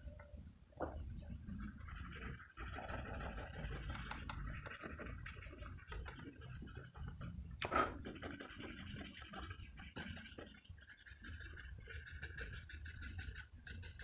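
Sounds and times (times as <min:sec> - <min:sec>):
pencil scratching on paper: 0:01.4 - 0:14.0.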